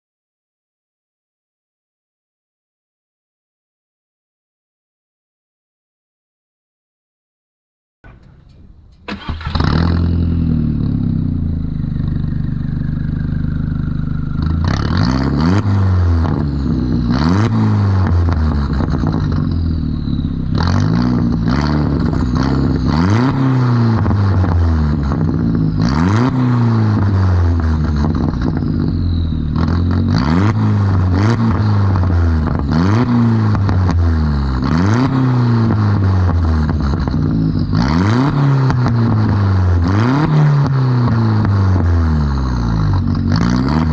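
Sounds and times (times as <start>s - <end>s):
car engine idling and revving: 8.0s - 43.9s.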